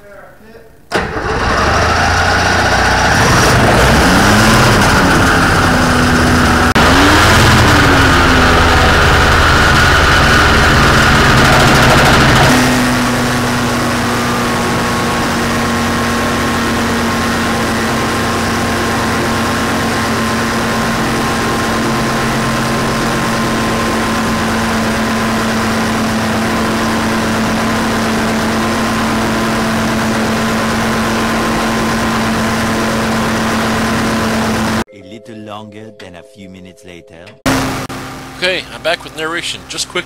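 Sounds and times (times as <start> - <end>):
two-stroke engine droning: 0.9 - 34.9, 37.4 - 40.0.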